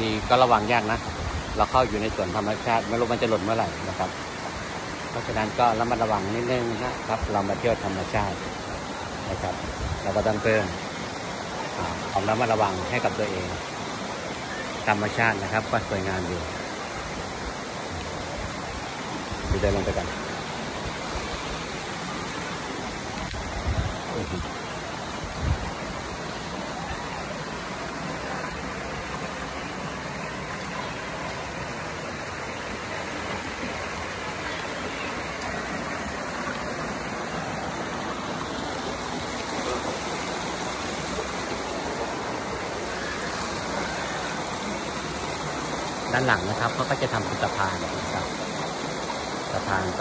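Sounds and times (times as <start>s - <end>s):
waterfall and stream rushing: 0.0s - 50.0s.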